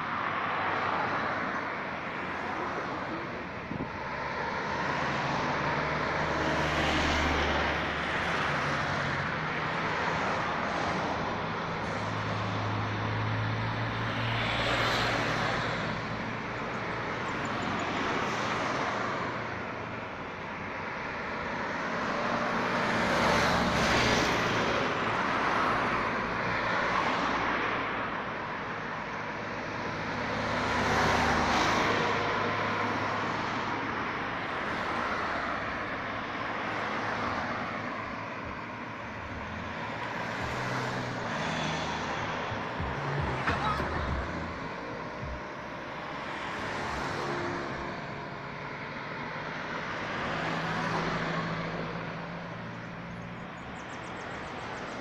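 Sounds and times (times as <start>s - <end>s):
cars driving past: 0.0s - 55.0s.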